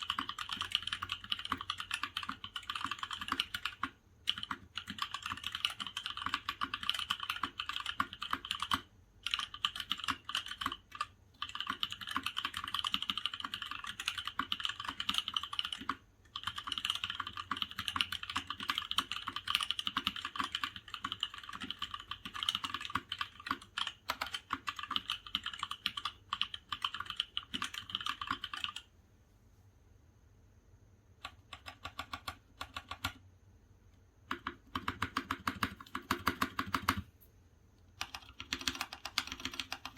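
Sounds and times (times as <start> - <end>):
mechanical keyboard typing: 0.0 - 28.9, 31.2 - 33.3, 34.2 - 37.1, 37.9 - 39.9.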